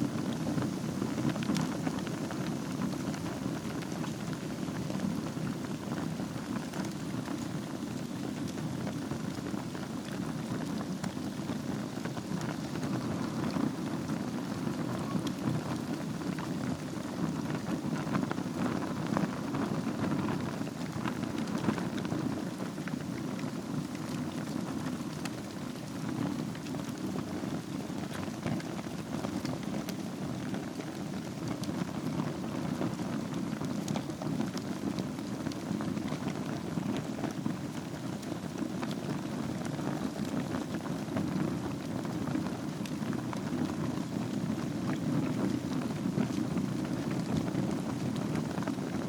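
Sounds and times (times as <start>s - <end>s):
fire crackling and popping: 0.0s - 49.0s
wood fire rushing: 0.1s - 49.0s.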